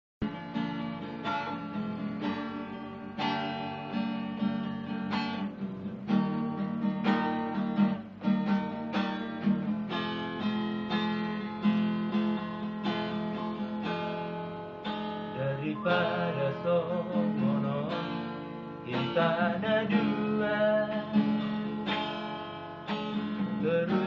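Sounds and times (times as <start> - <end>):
acoustic guitar strumming chords: 0.2 - 24.0.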